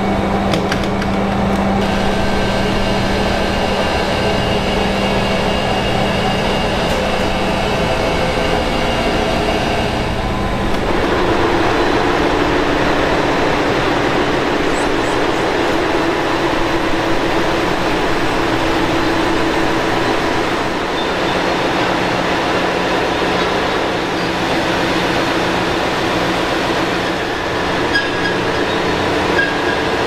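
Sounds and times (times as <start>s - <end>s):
engine room machinery hum: 0.0s - 30.0s
loud rough machinery noise: 0.0s - 30.0s.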